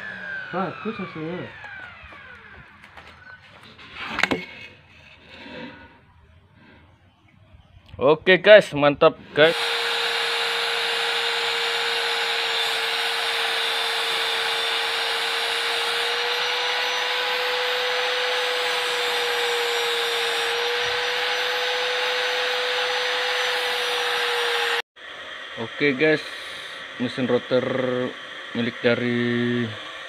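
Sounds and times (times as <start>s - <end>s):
wood router whining: 0.0s - 7.8s, 9.2s - 30.0s.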